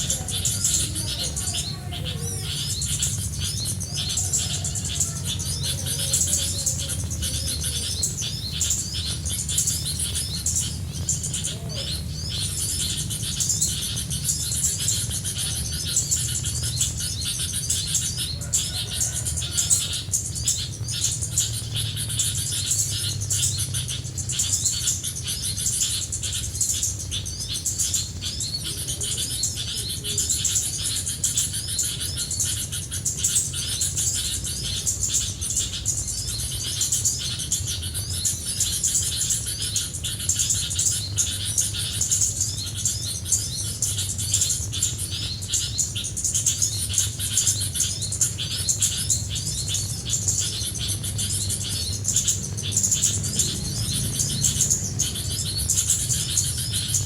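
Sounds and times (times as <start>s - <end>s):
low steady rumble: 0.0s - 57.0s
small birds chirping: 0.0s - 57.0s.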